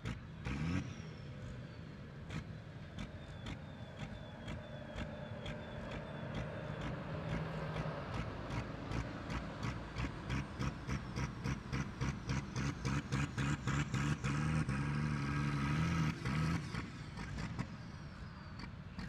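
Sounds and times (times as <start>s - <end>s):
diesel tractor engine: 0.0s - 19.0s.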